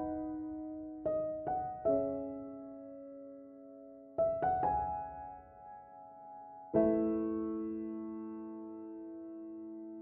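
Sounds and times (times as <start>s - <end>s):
soft piano notes: 0.0s - 10.0s.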